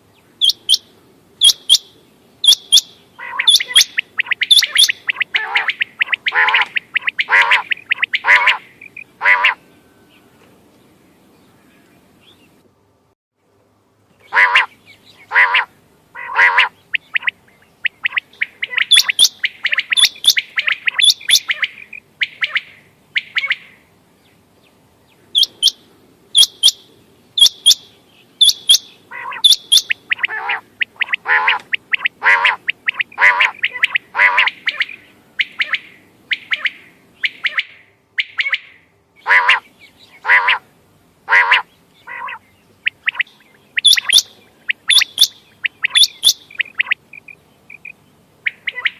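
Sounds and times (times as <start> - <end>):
quail calling: 0.4 - 9.6, 14.2 - 23.8, 27.4 - 40.7, 41.3 - 48.9.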